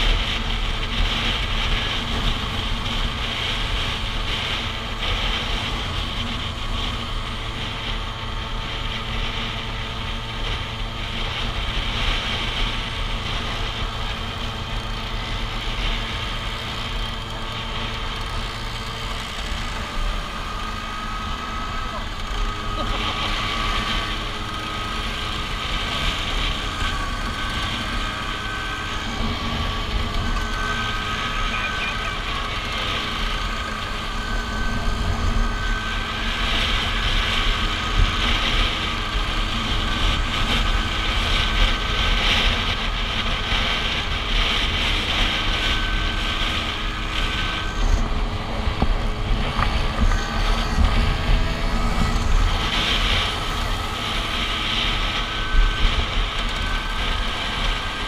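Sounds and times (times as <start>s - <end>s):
scooter engine running: 0.0s - 58.0s
wind rushing over microphone: 0.0s - 58.0s.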